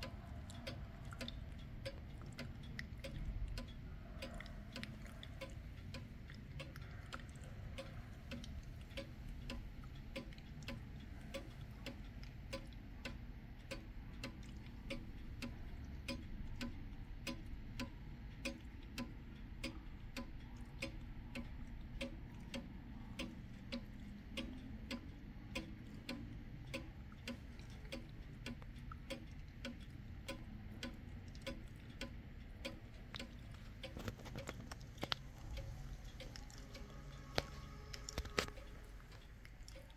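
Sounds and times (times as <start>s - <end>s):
pendulum wall clock ticking: 0.0s - 39.9s.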